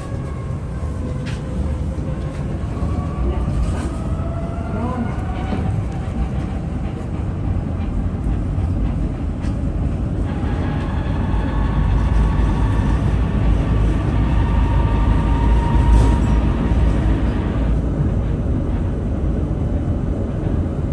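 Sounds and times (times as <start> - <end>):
tram rumbling on track: 0.0 - 20.9.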